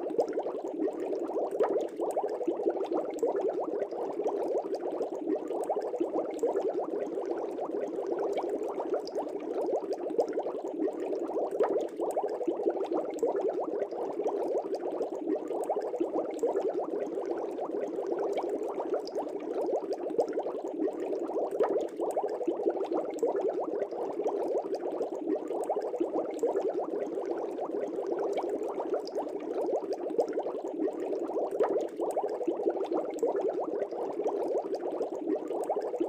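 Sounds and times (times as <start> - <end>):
air bubbles in water: 0.0 - 36.0.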